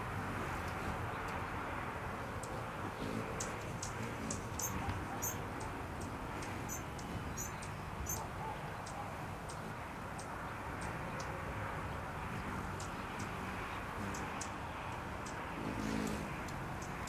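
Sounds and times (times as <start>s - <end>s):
hummingbird chip calls: 2.4s - 11.4s, 12.2s - 17.0s.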